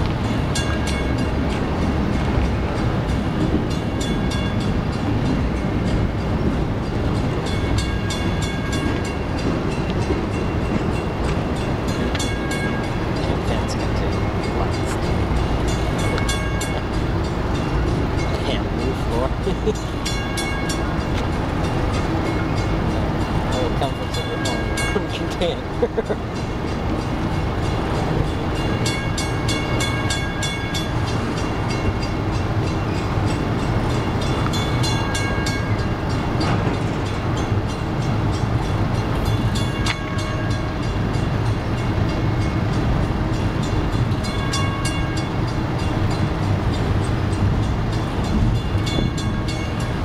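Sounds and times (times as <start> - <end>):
train wheels rumbling on rail: 0.0 - 50.0
high squealing of train wheels: 0.2 - 50.0.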